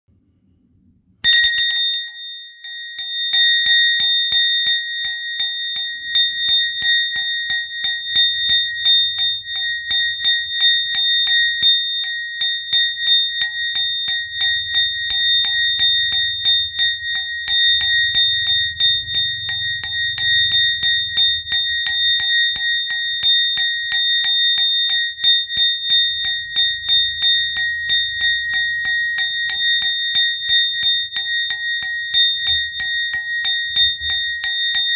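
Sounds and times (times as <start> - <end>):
prayer bell ringing rapidly: 1.2 - 34.9.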